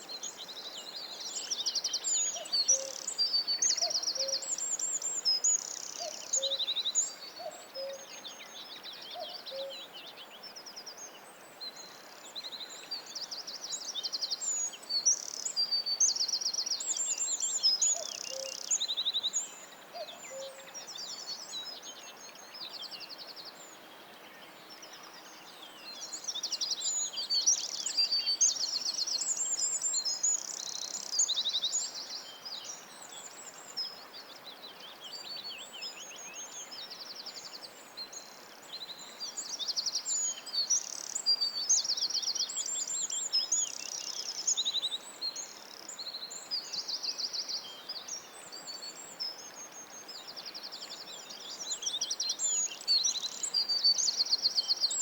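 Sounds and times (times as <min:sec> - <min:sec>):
faint steady hiss: 0:00.0 - 0:55.0
songbirds singing: 0:00.0 - 0:55.0.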